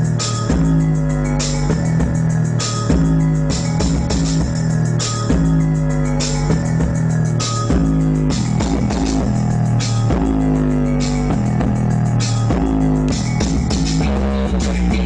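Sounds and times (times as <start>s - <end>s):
bass-heavy rock music: 0.0s - 15.0s.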